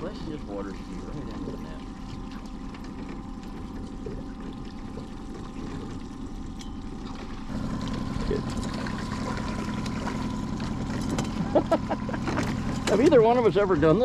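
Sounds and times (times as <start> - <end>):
boat motor running: 0.0 - 14.0
water noise: 0.0 - 14.0.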